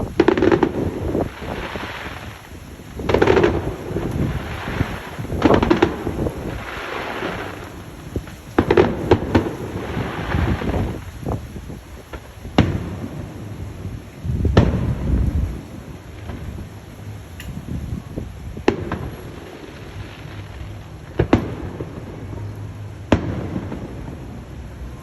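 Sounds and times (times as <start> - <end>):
fireworks booming: 0.0 - 25.0
fireworks cracking: 0.0 - 25.0
hissing crackle: 0.0 - 25.0.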